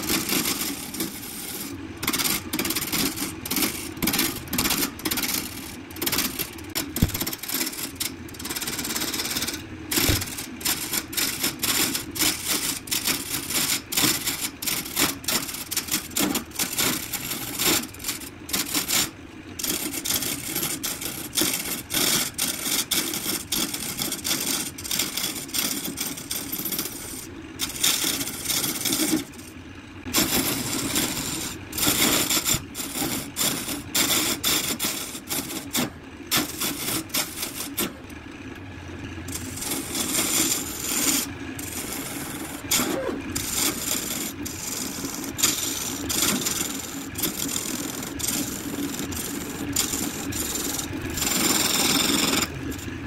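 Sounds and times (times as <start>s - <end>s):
lathe motor hum: 0.0s - 53.0s.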